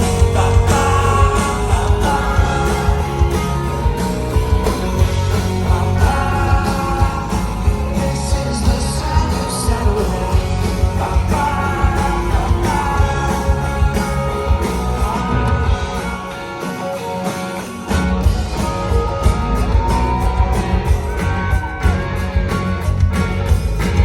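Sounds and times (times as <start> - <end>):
electric guitar lead: 0.0 - 24.0
live rock band playing: 0.0 - 24.0.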